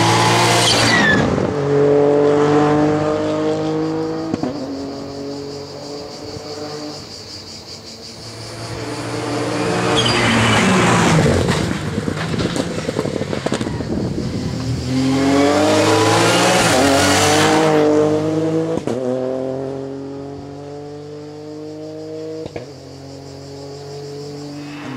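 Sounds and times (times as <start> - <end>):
rally car engine at full throttle: 0.0 - 7.3, 8.0 - 24.9.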